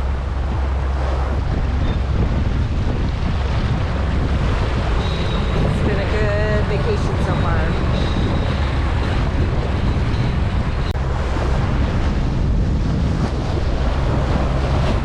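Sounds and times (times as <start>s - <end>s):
water rushing along boat: 0.0s - 15.0s
wind buffeting microphone: 0.0s - 15.0s.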